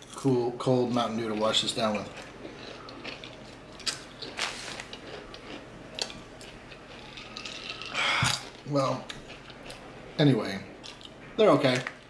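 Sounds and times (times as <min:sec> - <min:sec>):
potato chips crunching: 0:00.0 - 0:09.8.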